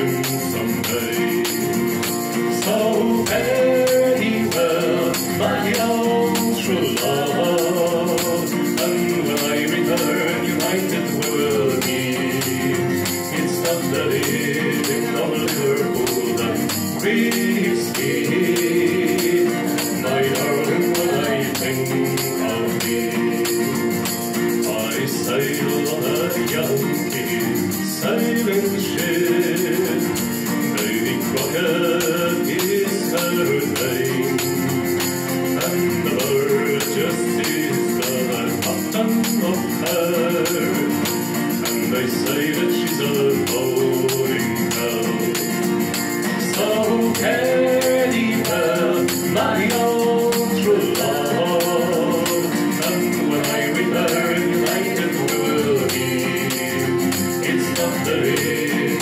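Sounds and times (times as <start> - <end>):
acoustic guitar: 0.0 - 59.0
person singing: 0.0 - 59.0
shaken tambourine: 0.0 - 59.0.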